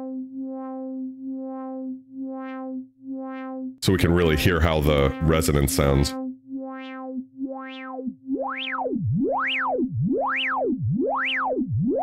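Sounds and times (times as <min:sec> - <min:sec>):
synthesizer filter sweep: 0:00.0 - 0:12.0.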